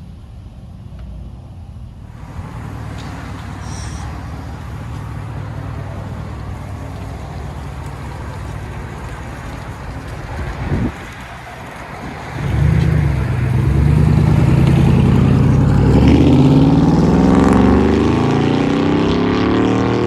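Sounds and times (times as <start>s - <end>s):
engine exhaust drone: 0.0s - 20.0s.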